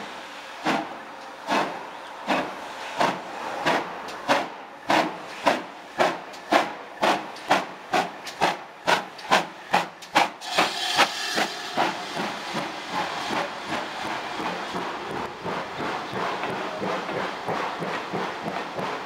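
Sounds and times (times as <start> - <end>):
steam hiss: 0.0 - 19.0
steam locomotive chuffing: 0.0 - 19.0.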